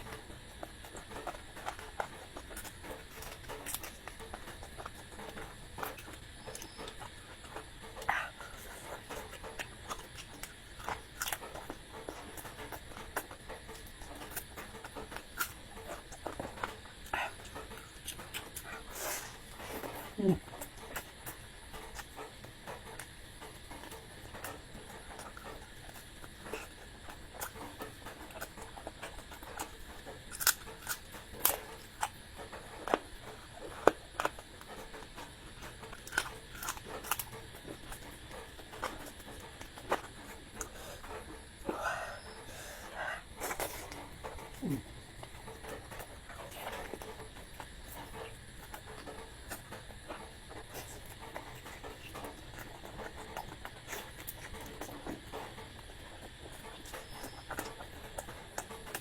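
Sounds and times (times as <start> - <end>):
chewing with mouth clicks: 0.0 - 59.0.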